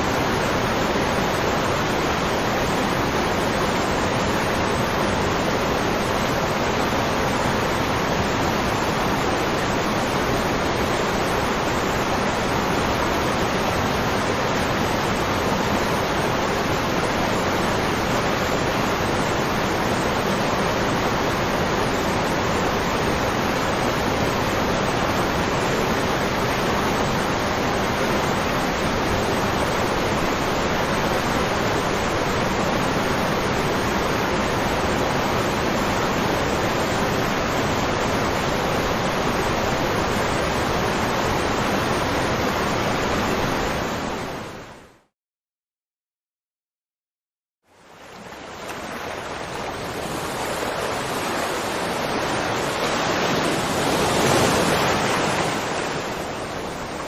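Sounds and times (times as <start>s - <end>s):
waterfall rushing: 0.0s - 44.6s, 47.8s - 57.0s.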